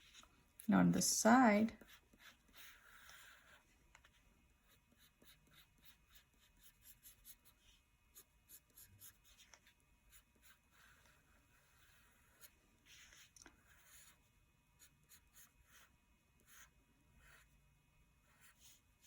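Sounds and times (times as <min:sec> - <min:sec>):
scratchy drawing strokes: 0:01.8 - 0:17.6.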